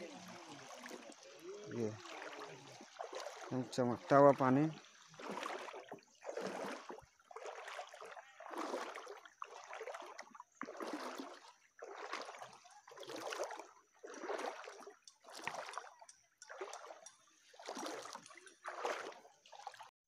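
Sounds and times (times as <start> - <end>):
footsteps wading through water: 0.0 - 19.9.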